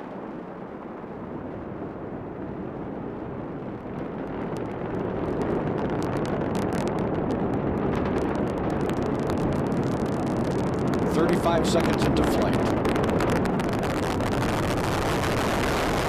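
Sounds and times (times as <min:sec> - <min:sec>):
rocket engine roar: 0:00.0 - 0:16.0.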